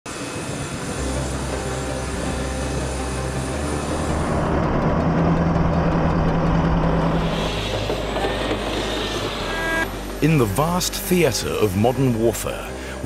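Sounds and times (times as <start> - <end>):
aircraft high whine: 0.0 - 13.0
tracked vehicle engine drone: 0.4 - 11.7.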